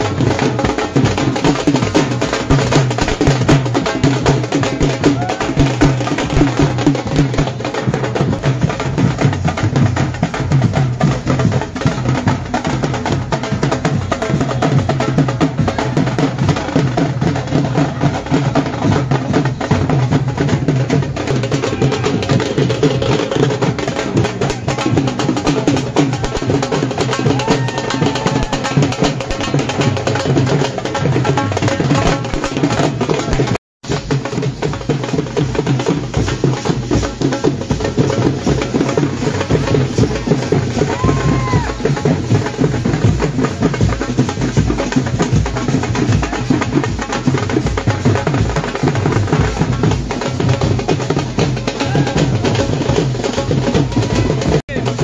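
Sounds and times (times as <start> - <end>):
dhol drums dance rhythm: 0.0 - 55.0.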